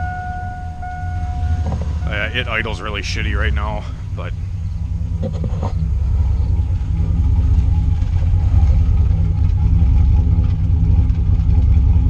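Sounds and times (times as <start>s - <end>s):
truck engine idling roughly: 0.0s - 12.0s.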